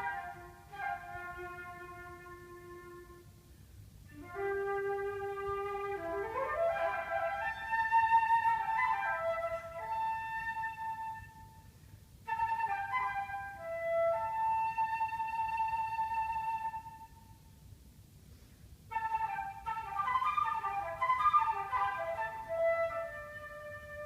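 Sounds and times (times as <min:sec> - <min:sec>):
solo flute playing: 0:00.0 - 0:03.5, 0:04.1 - 0:17.5, 0:18.9 - 0:24.0.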